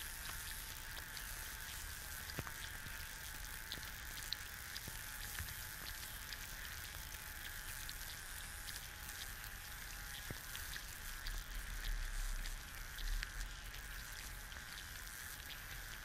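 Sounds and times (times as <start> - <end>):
egg sizzling in a pan: 0.0 - 16.0
small pops and ticks: 0.0 - 16.0.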